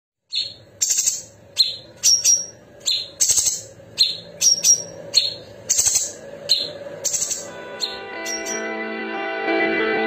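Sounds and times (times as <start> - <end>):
caged bird singing: 0.3 - 8.8.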